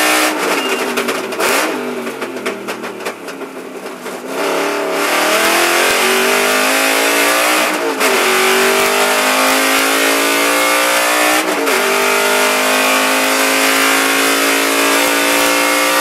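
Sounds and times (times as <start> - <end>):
race car engine at full throttle: 0.0 - 16.0.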